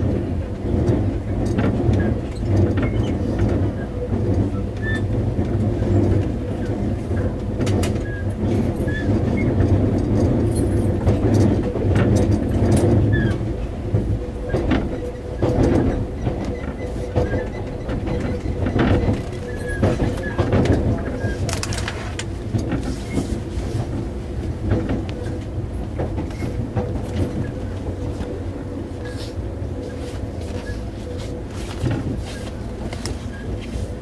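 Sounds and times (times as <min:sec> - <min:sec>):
train rumble and hum: 0:00.0 - 0:34.0.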